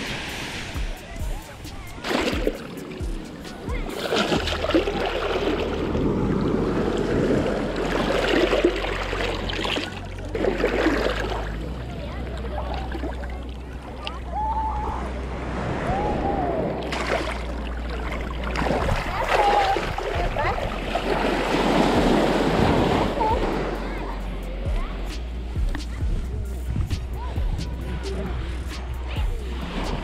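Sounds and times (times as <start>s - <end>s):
ocean surf washing on shore: 0.0s - 13.1s, 14.2s - 25.1s
faint voices of people: 0.0s - 30.0s.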